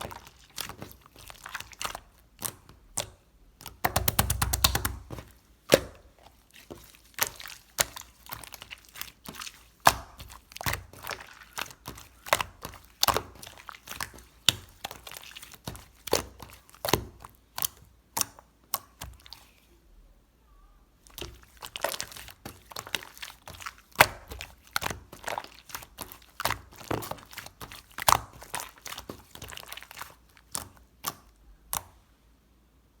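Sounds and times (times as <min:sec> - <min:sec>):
slime crackling and popping: 0:00.0 - 0:19.3, 0:21.1 - 0:31.9.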